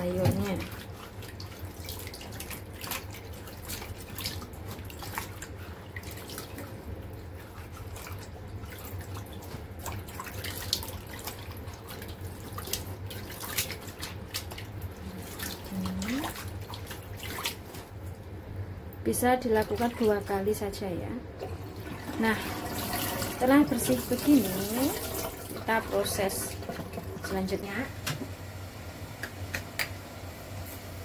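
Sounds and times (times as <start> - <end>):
water splashing in sink: 0.0 - 18.3, 19.1 - 28.4.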